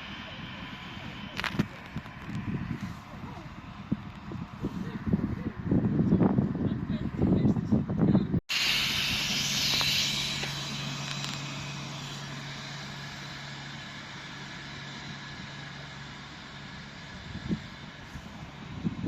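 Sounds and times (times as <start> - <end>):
diesel railcar engine drone: 0.0 - 19.0
rushing wheels and air: 0.0 - 19.0.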